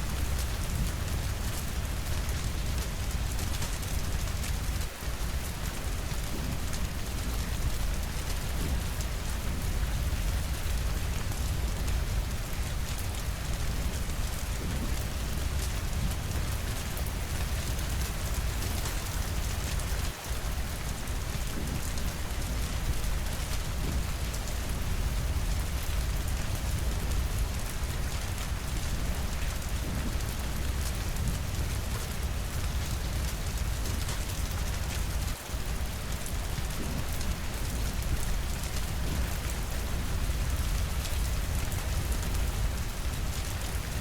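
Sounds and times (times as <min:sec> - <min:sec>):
steady rainfall: 0:00.0 - 0:44.0.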